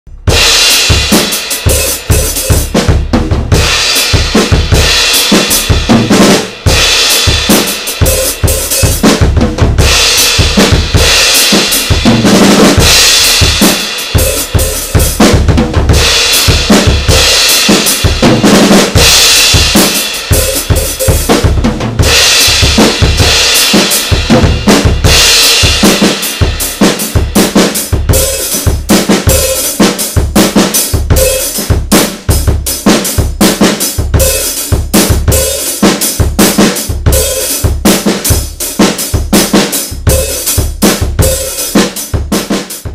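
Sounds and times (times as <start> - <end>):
drum kit playing loudly: 0.1 - 42.9.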